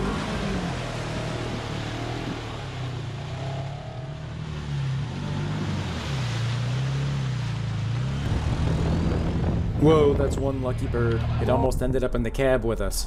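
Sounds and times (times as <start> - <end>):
off-road vehicle engines revving: 0.0 - 11.7
vehicles churning through mud: 0.0 - 11.7.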